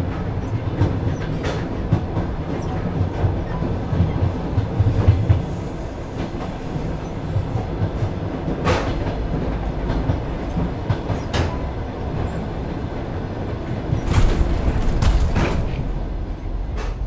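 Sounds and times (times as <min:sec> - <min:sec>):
train low rumble: 0:00.0 - 0:17.0
wheels clacking over rail joints: 0:00.0 - 0:17.0.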